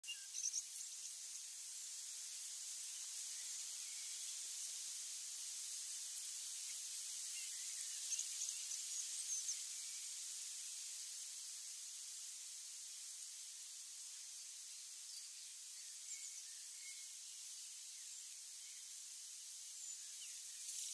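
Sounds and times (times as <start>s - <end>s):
steady outdoor hiss: 0.0s - 20.9s.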